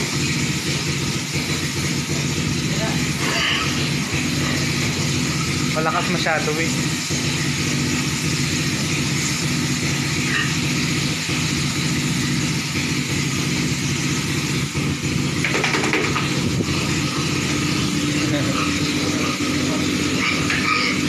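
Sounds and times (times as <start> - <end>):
pressure washer motor droning: 0.0 - 21.0
water jet hissing: 0.0 - 21.0.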